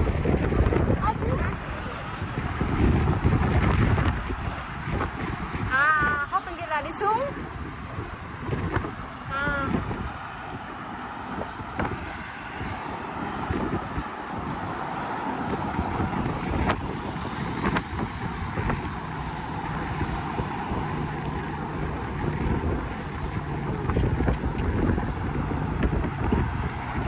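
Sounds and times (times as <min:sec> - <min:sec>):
car traffic rushing: 0:00.0 - 0:27.0
wind buffeting microphone: 0:00.0 - 0:27.0.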